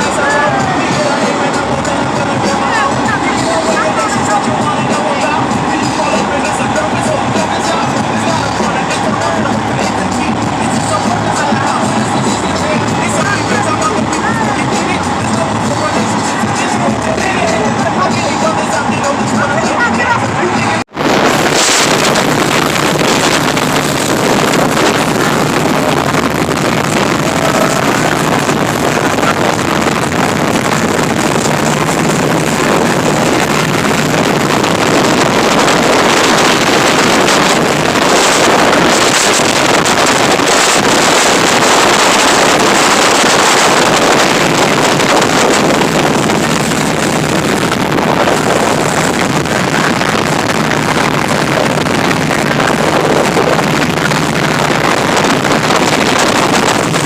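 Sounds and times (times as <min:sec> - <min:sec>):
speedboat engine: 0:00.0 - 0:57.0
wind on microphone: 0:00.0 - 0:57.0.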